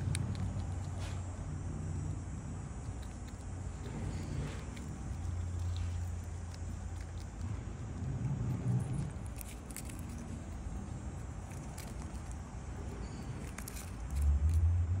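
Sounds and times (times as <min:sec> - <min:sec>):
peanut shell clicks and rustles: 0:00.0 - 0:01.1, 0:02.7 - 0:14.7
low outdoor rumble: 0:00.0 - 0:15.0.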